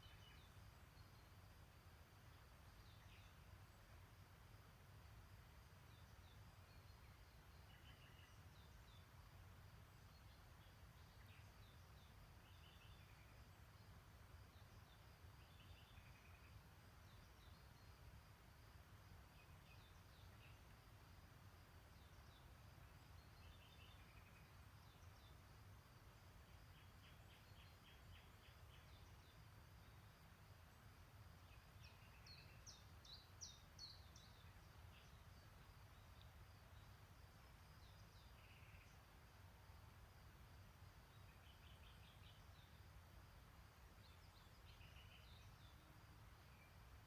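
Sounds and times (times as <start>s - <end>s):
low background noise: 0.0s - 47.0s
songbird chirps and trills: 0.0s - 47.0s.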